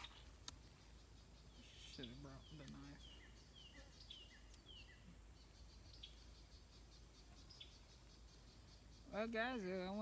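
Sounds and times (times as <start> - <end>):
bird chirping: 0.0 - 10.0
faint insect ticking: 0.0 - 10.0.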